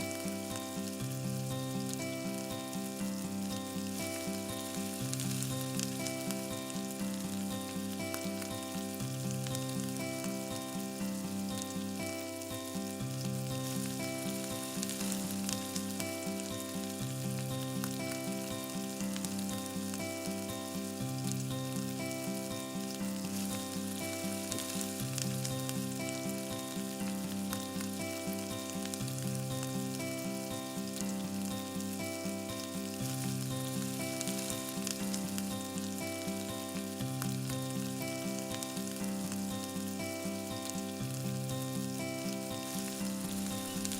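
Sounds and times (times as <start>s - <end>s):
background music: 0.0s - 43.9s
chicken sizzling in a pot: 0.0s - 43.9s.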